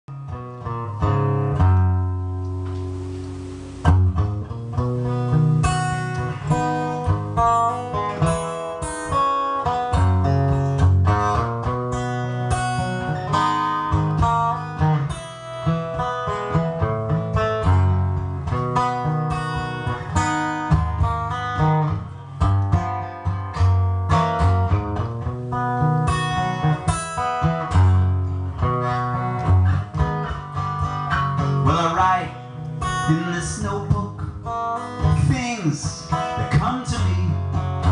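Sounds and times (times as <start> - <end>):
acoustic guitar strumming: 0.1 - 37.9.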